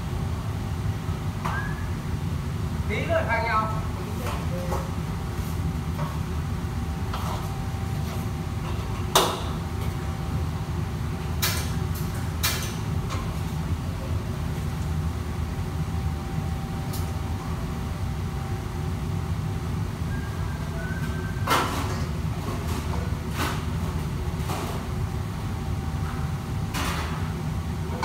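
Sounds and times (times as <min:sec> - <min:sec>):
wok burners roaring: 0:00.0 - 0:28.0.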